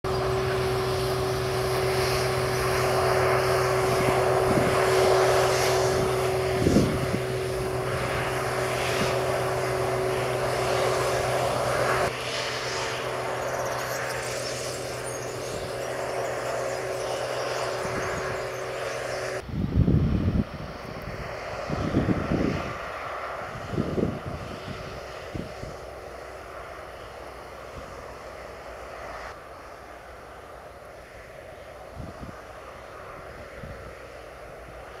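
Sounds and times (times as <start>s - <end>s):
combine harvester drone: 0.0s - 35.0s.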